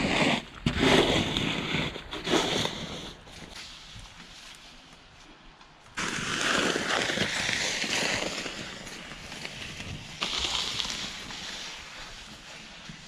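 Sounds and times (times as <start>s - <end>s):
snow shovel scraping snow: 0.0s - 4.6s, 6.0s - 13.0s.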